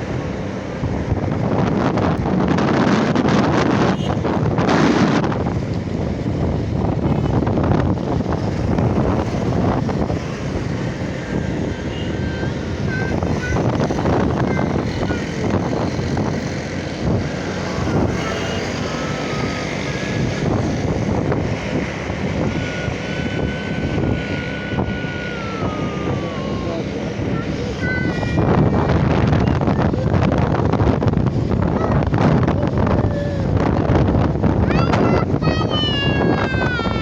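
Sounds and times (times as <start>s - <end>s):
motorcycle engine: 0.0s - 34.6s
road noise: 0.0s - 37.0s
wind buffeting microphone: 0.0s - 37.0s.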